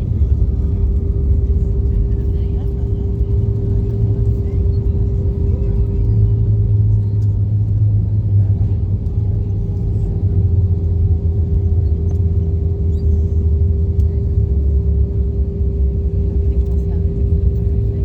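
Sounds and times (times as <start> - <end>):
airplane cabin engine rumble: 0.0 - 18.0
constant hum: 0.0 - 18.0.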